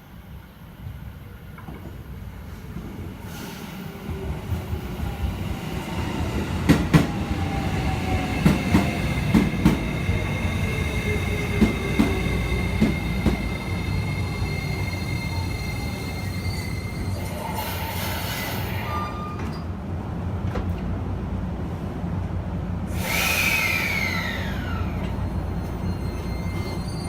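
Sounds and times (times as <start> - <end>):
train rumble: 0.6 - 27.0.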